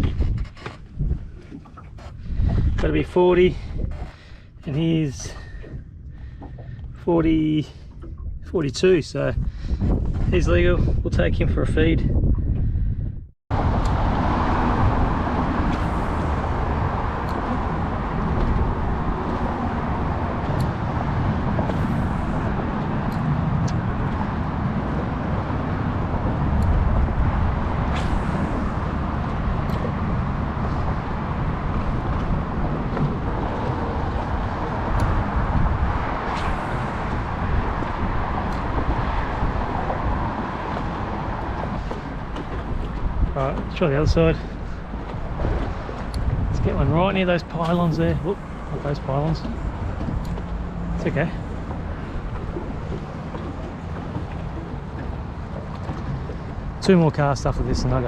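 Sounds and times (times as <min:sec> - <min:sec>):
boat motor rumbling: 0:00.0 - 0:58.0
wind noise: 0:00.0 - 0:58.0.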